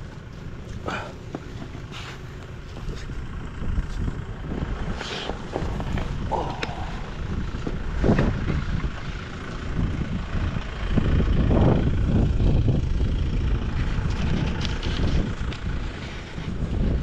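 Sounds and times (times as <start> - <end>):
wind buffeting microphone: 2.8 - 17.0.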